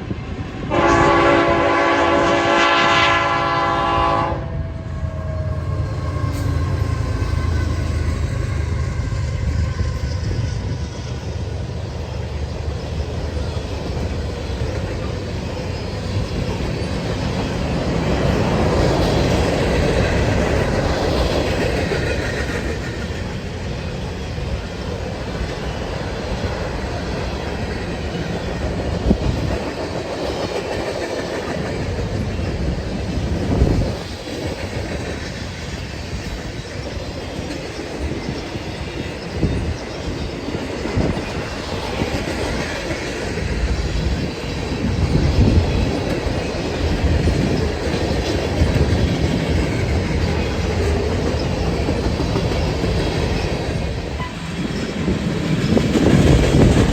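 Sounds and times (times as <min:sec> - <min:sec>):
train rumbling past: 0:00.0 - 0:56.9
wheels clacking over rail joints: 0:06.1 - 0:56.9.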